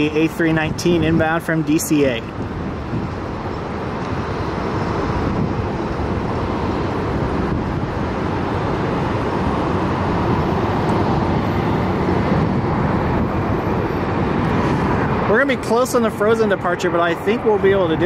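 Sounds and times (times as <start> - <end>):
jet engine rushing: 0.0 - 18.0.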